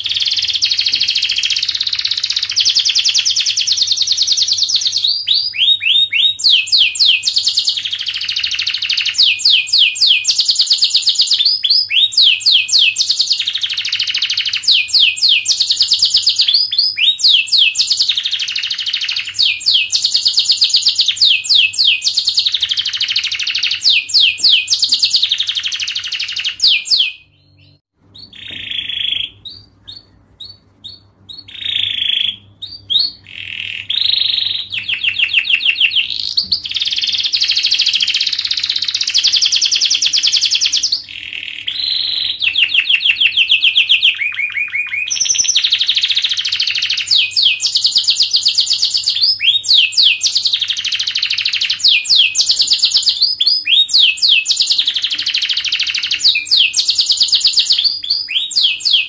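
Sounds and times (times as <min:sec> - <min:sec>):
canary chirps: 0:00.0 - 0:59.0
canary singing trills: 0:00.0 - 0:59.0.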